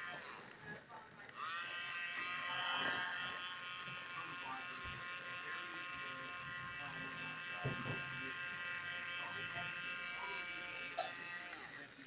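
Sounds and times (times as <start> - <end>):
toy train motor whining: 0.0 - 0.7, 1.3 - 12.0.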